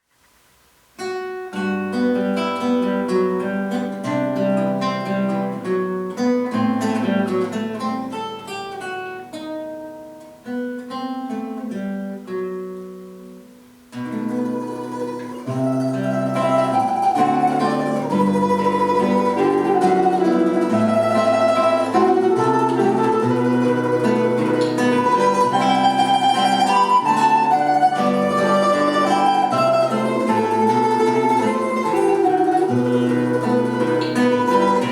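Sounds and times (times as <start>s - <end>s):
plucked string duet: 1.1s - 34.9s.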